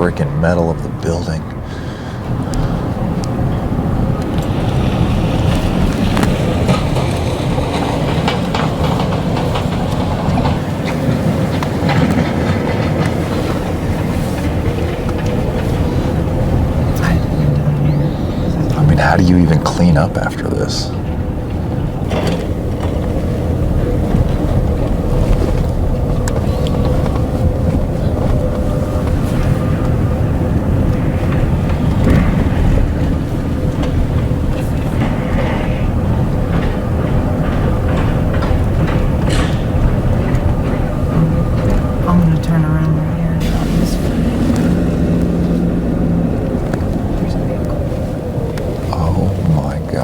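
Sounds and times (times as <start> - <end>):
faint constant hum: 0.0 - 50.0
moving vehicle rumble: 0.0 - 50.0.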